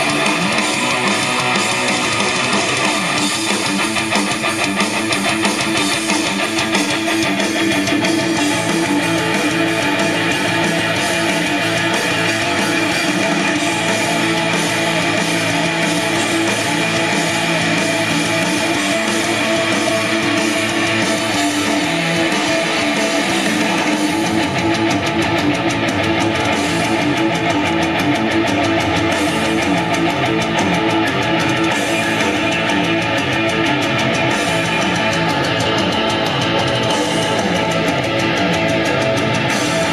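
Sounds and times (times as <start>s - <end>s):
bass part: 0.0s - 39.9s
guitar music from cassette: 0.0s - 39.9s.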